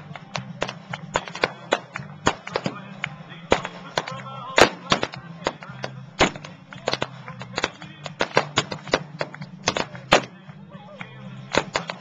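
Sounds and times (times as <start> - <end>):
rapid sharp cracks or bangs: 0.0 - 10.4, 11.4 - 12.0
music playing: 0.0 - 12.0.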